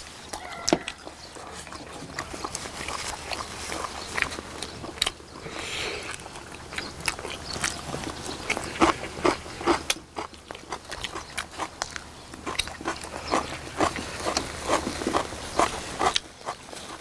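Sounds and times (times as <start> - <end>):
people chewing and biting: 0.0 - 17.0.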